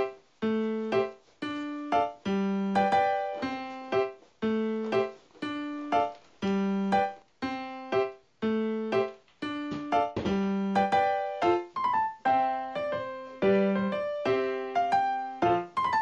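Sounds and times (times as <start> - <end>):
light piano keyboard tune: 0.0 - 16.0.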